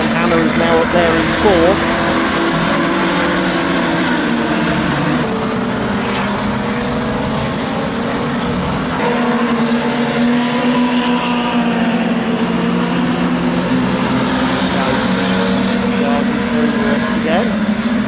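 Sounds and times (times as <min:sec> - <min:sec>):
racing car engines: 0:00.0 - 0:18.0.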